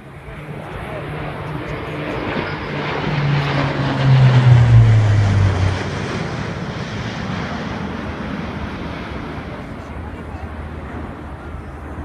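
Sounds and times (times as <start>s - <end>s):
propeller plane passing overhead: 0.0s - 12.0s.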